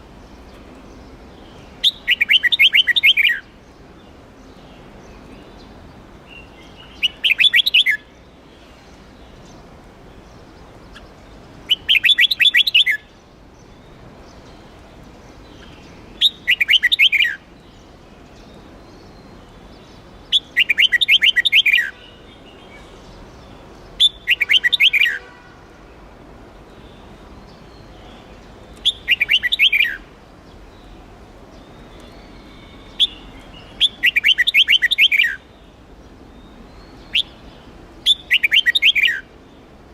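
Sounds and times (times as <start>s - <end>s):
bird singing rapid clear notes: 0.3s - 3.6s, 5.1s - 8.2s, 10.3s - 14.8s, 15.4s - 25.6s, 26.8s - 39.3s.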